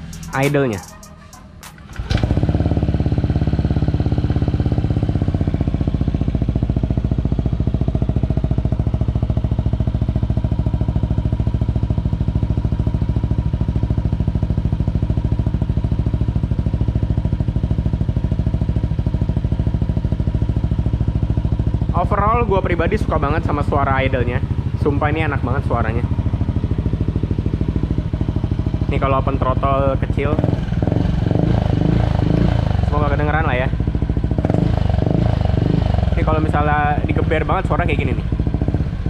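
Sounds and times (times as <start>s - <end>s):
scooter engine idling: 0.0s - 39.0s.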